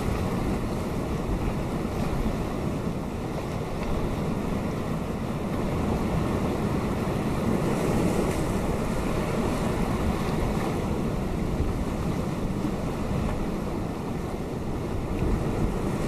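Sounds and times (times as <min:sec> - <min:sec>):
waves breaking on rocky shore: 0:00.0 - 0:16.0.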